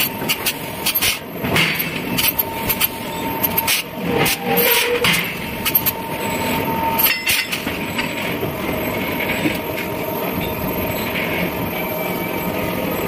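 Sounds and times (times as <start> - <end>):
machinery whining steadily: 0.0 - 13.0.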